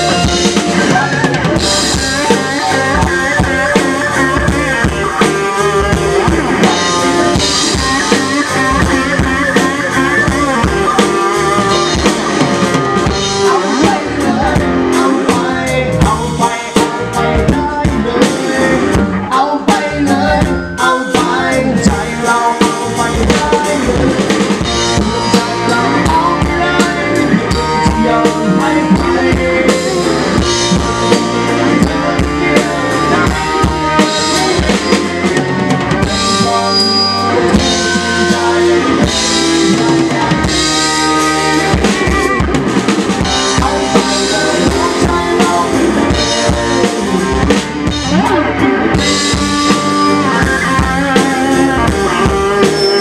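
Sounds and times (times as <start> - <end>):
drum kit beat: 0.0 - 53.0
electric guitar: 0.0 - 53.0
live rock band playing: 0.0 - 53.0.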